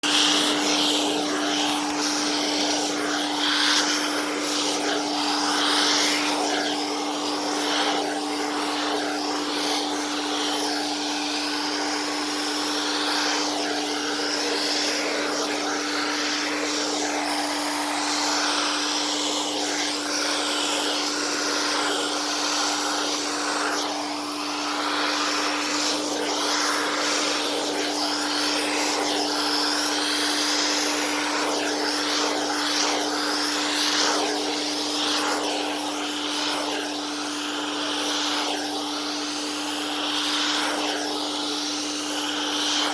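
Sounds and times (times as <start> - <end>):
air rushing through vacuum nozzle: 0.0 - 42.9
vacuum cleaner motor humming: 0.0 - 42.9.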